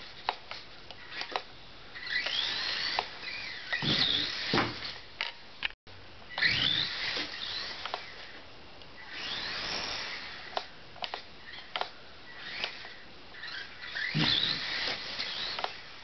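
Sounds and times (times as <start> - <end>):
small electric motor whining: 1.0 - 5.0, 6.3 - 8.4, 9.0 - 16.0.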